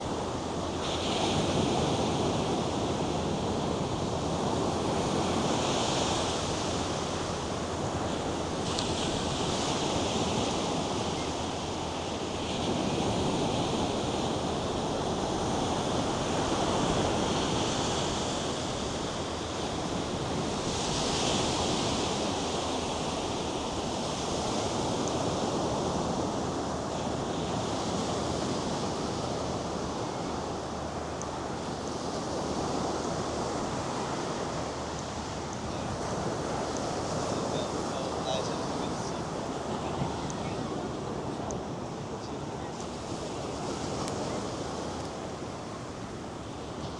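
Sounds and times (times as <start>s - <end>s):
surf breaking on sandy beach: 0.0s - 46.9s.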